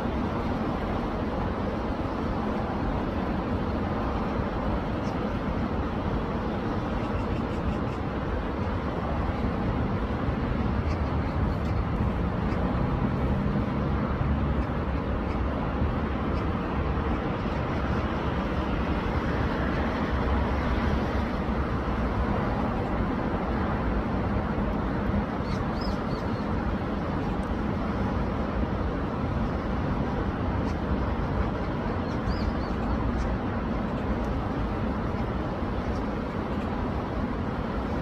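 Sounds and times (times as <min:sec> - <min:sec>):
rushing stream water: 0:00.0 - 0:38.0.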